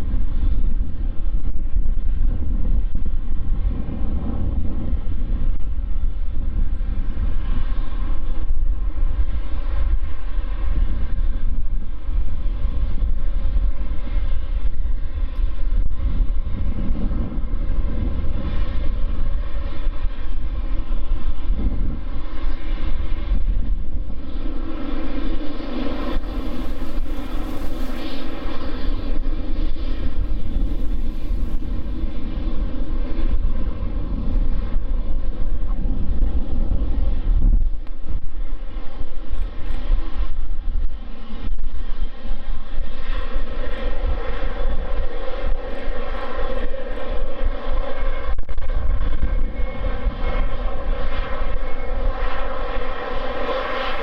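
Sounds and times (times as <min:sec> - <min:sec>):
jet engines whining at taxi: 0:00.0 - 0:54.0.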